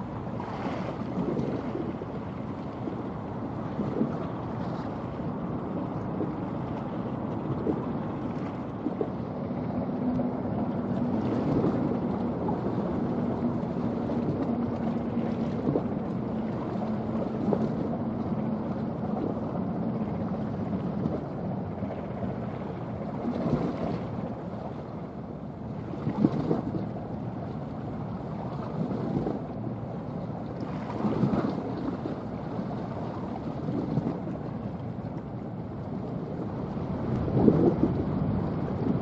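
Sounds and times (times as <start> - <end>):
ship engine rumbling: 0.0 - 39.0
wind on microphone: 0.0 - 39.0.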